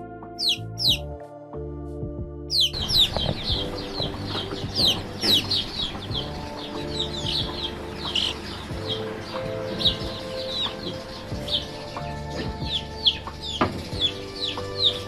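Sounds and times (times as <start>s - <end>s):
background music: 0.0s - 15.0s
chicks peeping: 0.4s - 1.0s, 2.5s - 15.0s.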